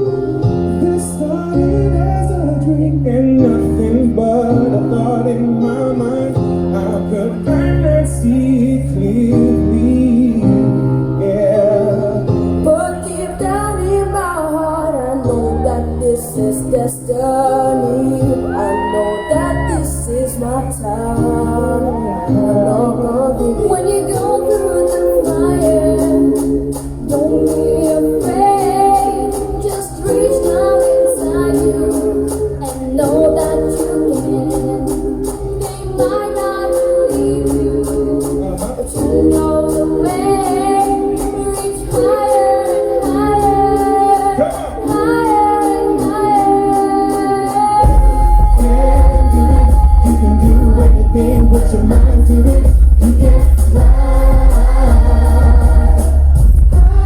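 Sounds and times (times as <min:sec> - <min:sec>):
live pop song with vocal group: 0:00.0 - 0:57.0.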